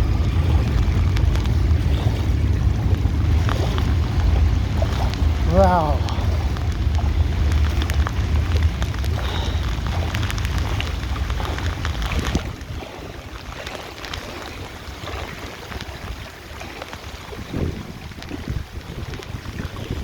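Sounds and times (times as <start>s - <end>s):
rain pattering: 0.0s - 20.0s
wind buffeting microphone: 0.0s - 20.0s.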